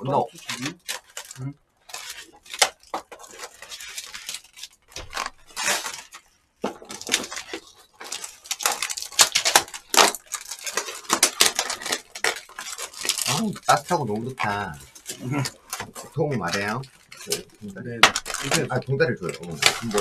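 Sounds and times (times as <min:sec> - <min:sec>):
plastic containers crinkling: 0:00.0 - 0:20.0.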